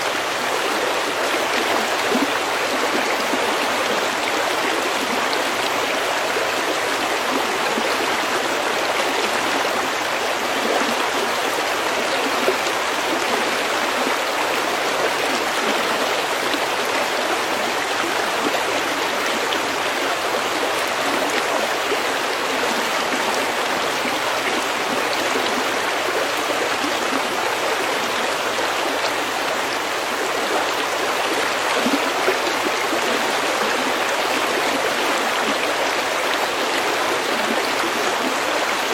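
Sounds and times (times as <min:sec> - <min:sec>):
stream water over pebbles: 0:00.0 - 0:38.9.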